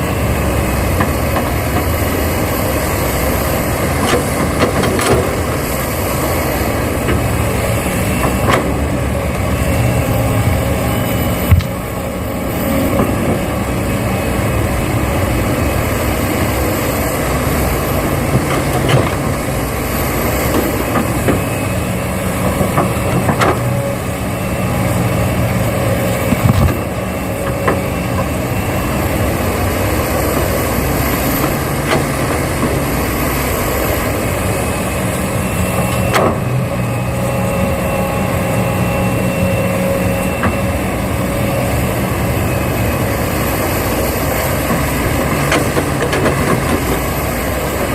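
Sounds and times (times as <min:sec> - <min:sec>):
excavator running: 0:00.0 - 0:47.9
faint high whine: 0:05.2 - 0:47.9.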